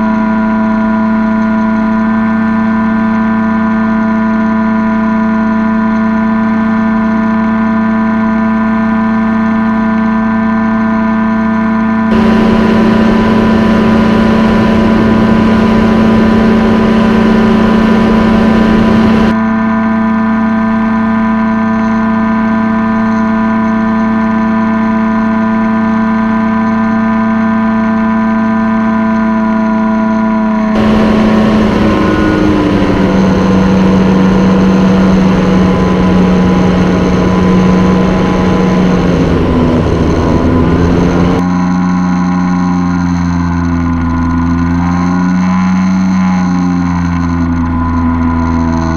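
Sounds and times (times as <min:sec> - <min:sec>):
paramotor engine and propeller droning: 0:00.0 - 0:19.4, 0:22.4 - 0:48.9.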